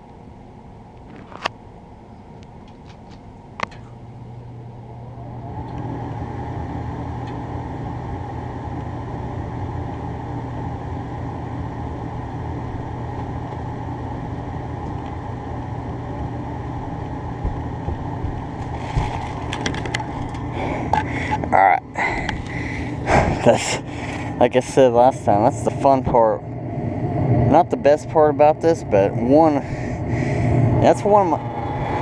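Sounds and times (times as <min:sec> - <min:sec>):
furnace motor humming: 0:00.0 - 0:32.0.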